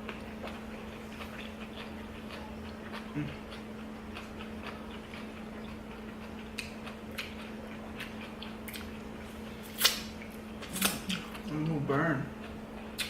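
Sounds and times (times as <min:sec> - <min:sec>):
chewing with wet mouth clicks: 0:00.0 - 0:13.0
refrigerator hum: 0:00.0 - 0:13.0.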